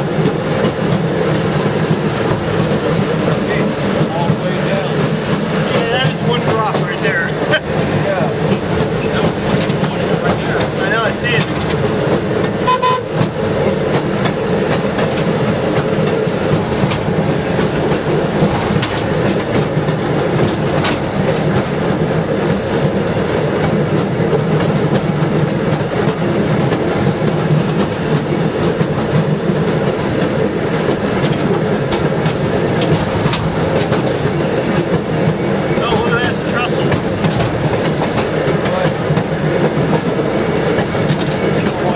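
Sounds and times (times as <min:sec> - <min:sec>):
wheels clacking over rail joints: 0:00.0 - 0:41.9.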